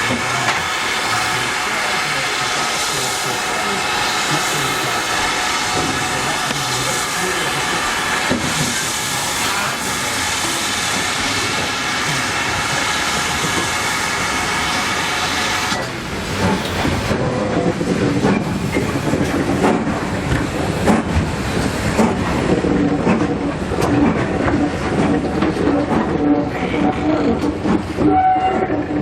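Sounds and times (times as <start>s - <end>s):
steam locomotive hissing: 0.0s - 29.0s
train carriages rattling: 0.0s - 29.0s.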